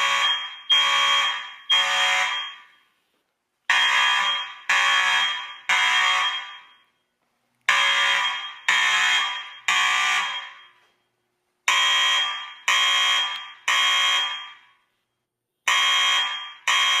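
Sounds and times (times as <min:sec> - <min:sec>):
fire alarm blasts: 0:00.0 - 0:03.0, 0:03.7 - 0:07.1, 0:07.7 - 0:14.9, 0:15.6 - 0:17.0.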